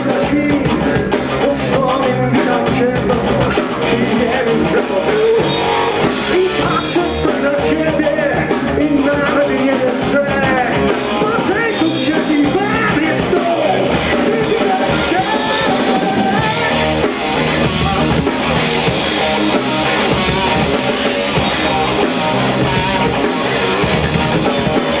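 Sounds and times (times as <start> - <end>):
person singing: 0.0 - 25.0
rock band playing: 0.0 - 25.0.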